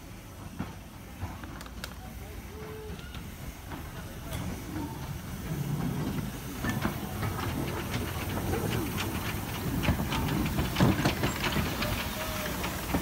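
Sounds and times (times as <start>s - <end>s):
locomotive low rumble: 0.0s - 13.0s
steam hissing: 0.0s - 13.0s.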